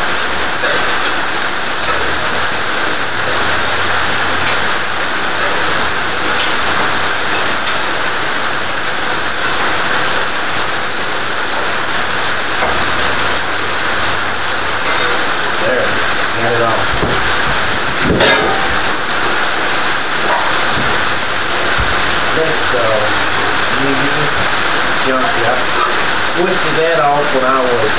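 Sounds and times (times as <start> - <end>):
heavy rain: 0.0 - 27.9.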